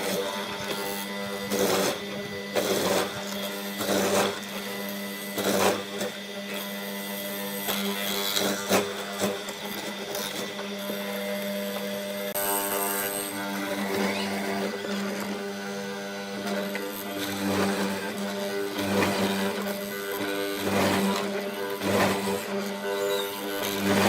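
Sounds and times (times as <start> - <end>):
power tool cutting wood: 0.0 - 24.0
power tool motor humming: 0.0 - 24.0.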